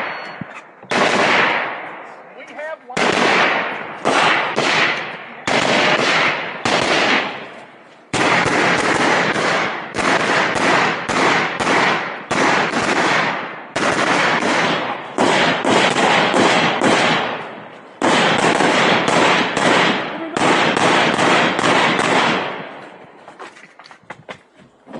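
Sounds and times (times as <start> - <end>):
rifle shots: 0.0 - 2.1, 2.9 - 23.0.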